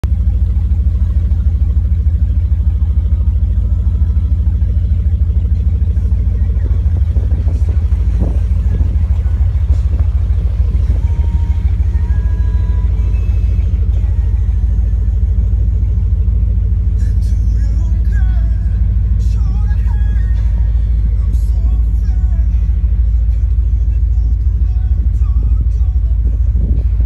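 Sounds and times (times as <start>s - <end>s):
motorboat engine rumbling: 0.0s - 27.0s.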